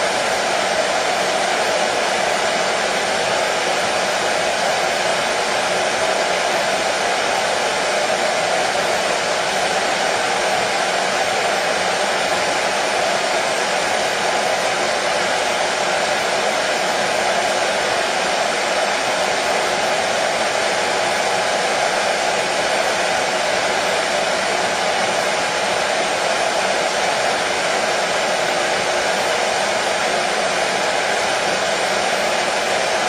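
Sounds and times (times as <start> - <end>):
hair dryer running: 0.0 - 33.0.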